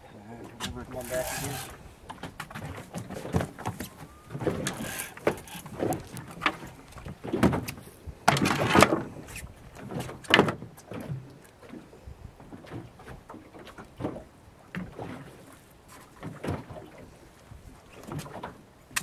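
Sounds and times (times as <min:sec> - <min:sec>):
water slapping against boat hull: 0:00.4 - 0:19.0.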